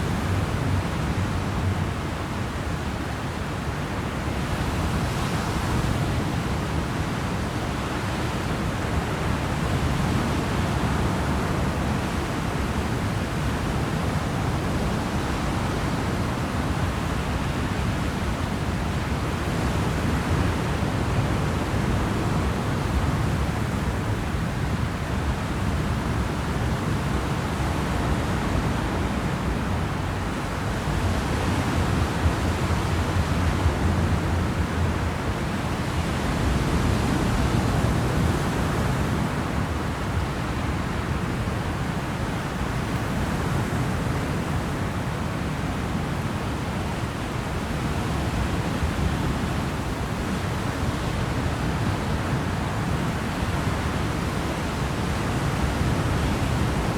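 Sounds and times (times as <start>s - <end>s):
rush of wind and water: 0.0s - 56.9s.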